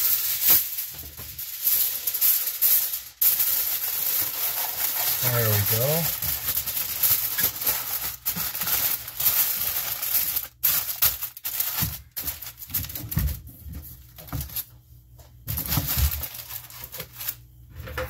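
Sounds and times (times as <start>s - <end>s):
aluminium foil crinkling: 0.0s - 14.7s, 15.5s - 17.4s.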